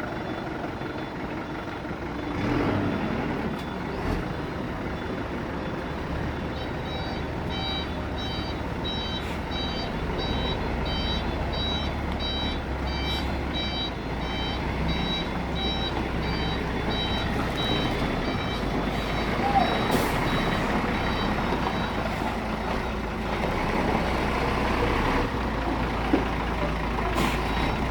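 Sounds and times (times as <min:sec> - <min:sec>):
truck engine running: 0:00.0 - 0:27.9
truck reversing alarm beeping: 0:00.0 - 0:27.9.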